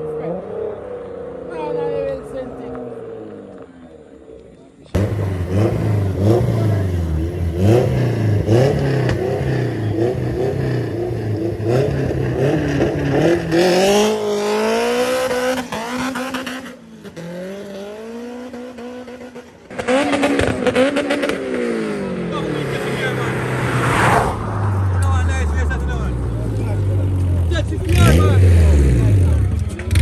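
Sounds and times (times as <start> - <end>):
race car engine revving: 4.9 - 30.0.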